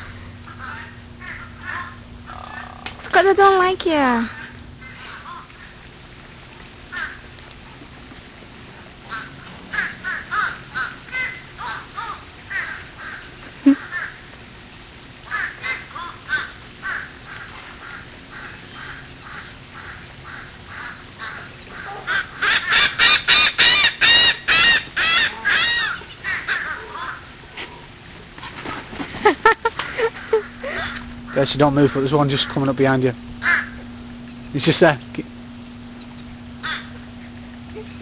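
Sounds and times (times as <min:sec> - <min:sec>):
bird calling: 0:00.0 - 0:07.9, 0:09.0 - 0:14.6, 0:15.2 - 0:38.0.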